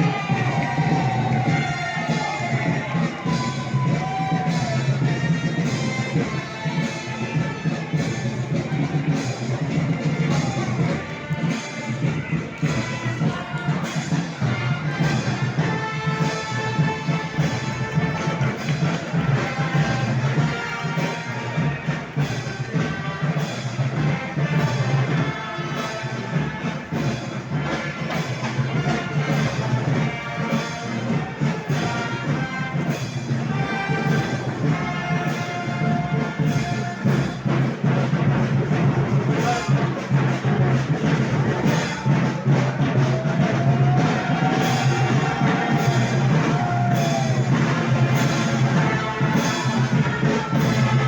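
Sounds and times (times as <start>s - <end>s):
festival band with drums: 0.0s - 51.0s.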